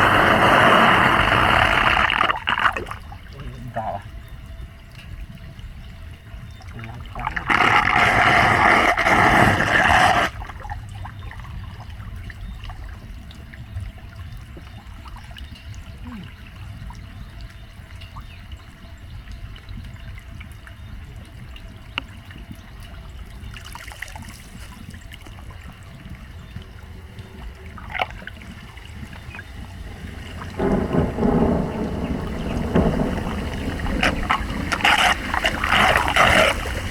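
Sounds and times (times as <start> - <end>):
floodwater running into a drain: 0.0 - 36.9.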